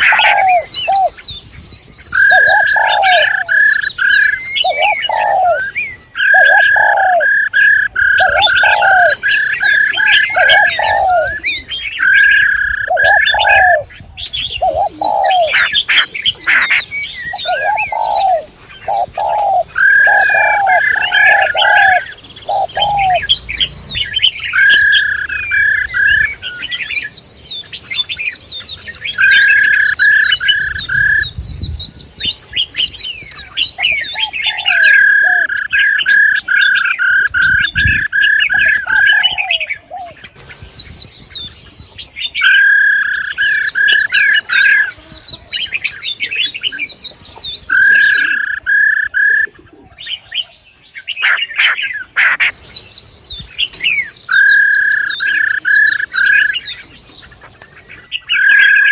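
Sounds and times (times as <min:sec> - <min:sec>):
birds chirping and trilling: 0:00.0 - 0:58.9
low whistled bird notes: 0:00.0 - 0:58.9.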